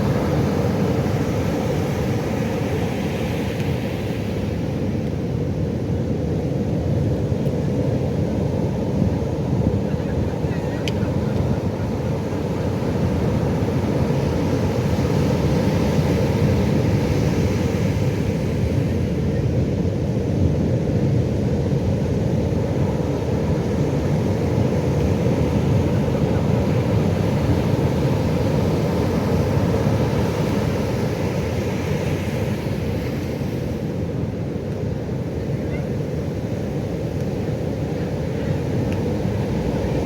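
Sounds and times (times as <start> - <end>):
waves breaking rumble: 0.0 - 40.0.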